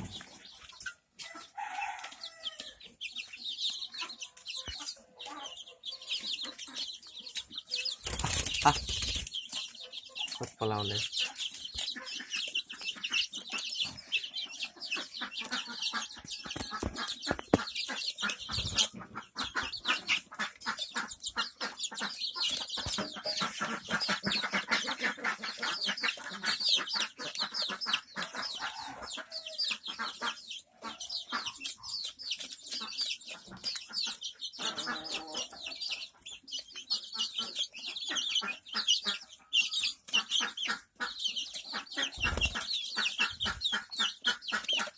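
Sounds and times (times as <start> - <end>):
chicks peeping and clucking: 0.0 - 44.9
beaks pecking on plastic tray: 3.4 - 29.3, 30.0 - 44.9.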